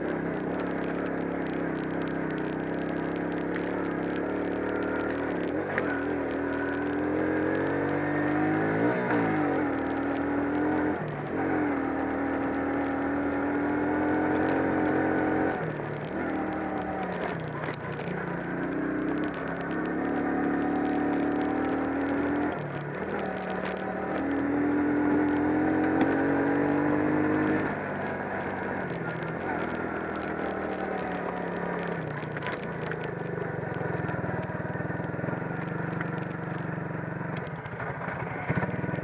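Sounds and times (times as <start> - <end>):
atv engine running under load: 0.0 - 39.0.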